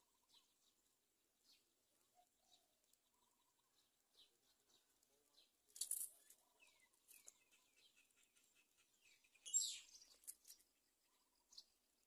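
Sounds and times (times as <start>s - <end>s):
faint high chick chirping: 1.4s - 11.9s.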